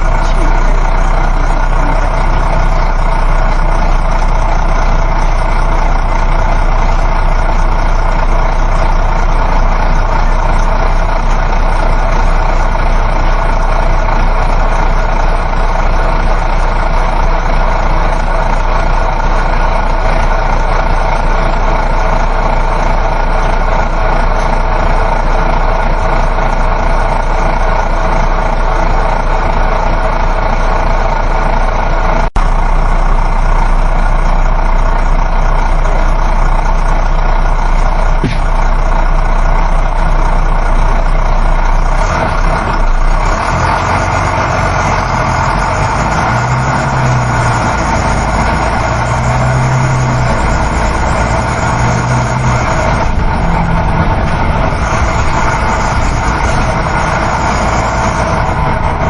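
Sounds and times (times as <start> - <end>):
bus engine drone: 0.0 - 59.0
road and tyre noise: 0.0 - 59.0.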